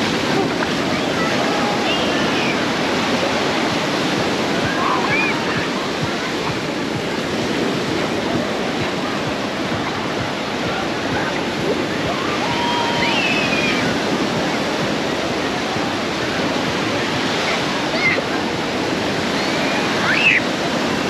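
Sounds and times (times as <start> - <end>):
ocean surf washing ashore: 0.0 - 21.0.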